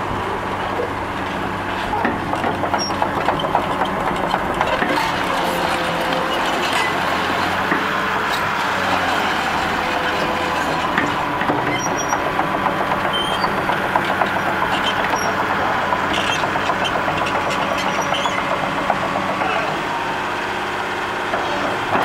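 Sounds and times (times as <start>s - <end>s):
crawler tracks clanking: 0.0s - 22.0s
diesel engine running: 0.0s - 22.0s.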